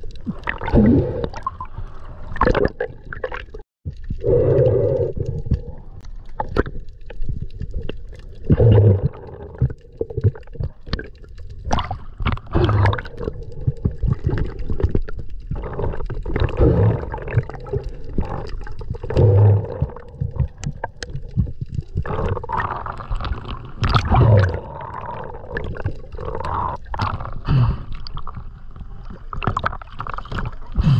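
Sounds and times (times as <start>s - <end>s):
muffled water sloshing underwater: 0.0s - 30.9s.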